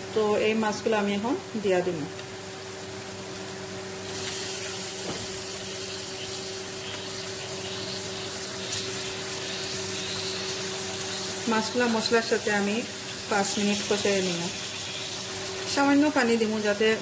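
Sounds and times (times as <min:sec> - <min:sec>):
spice paste sizzling in a pan: 0:02.7 - 0:17.0.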